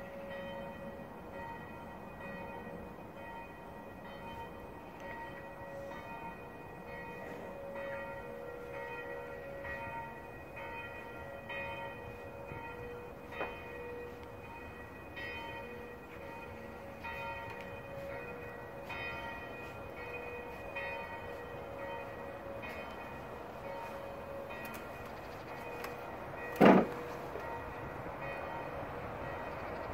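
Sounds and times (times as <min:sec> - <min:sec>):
church bells pealing: 0:00.0 - 0:29.9.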